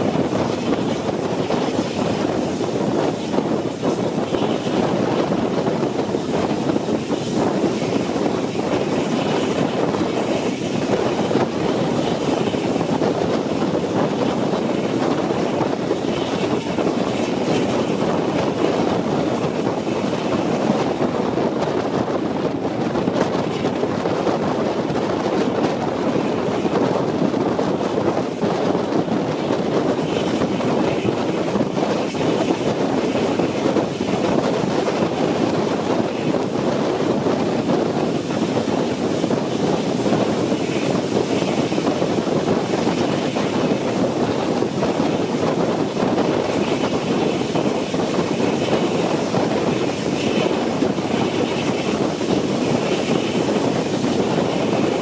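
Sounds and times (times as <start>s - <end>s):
steam train running: 0.0s - 55.0s
wind buffeting microphone: 0.0s - 55.0s.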